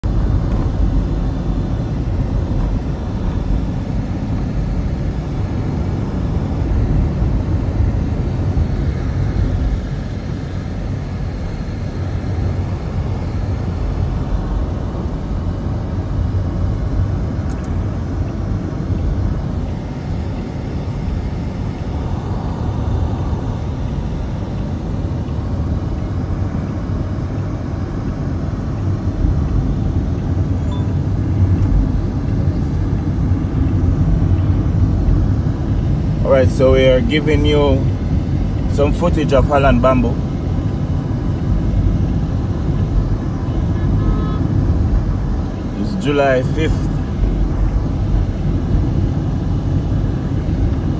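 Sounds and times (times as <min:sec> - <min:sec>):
car driving along road: 0:00.0 - 0:50.9.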